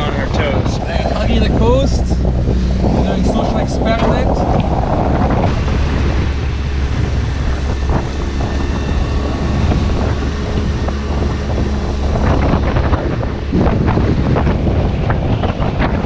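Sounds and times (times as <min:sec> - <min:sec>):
choppy sea wash: 0:00.0 - 0:16.0
wind buffeting microphone: 0:00.0 - 0:16.0.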